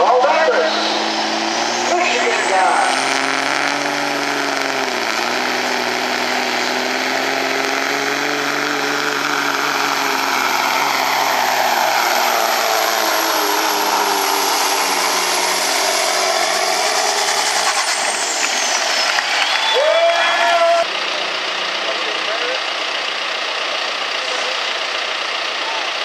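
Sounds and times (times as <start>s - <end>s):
diesel engine under heavy load: 0.0s - 26.0s.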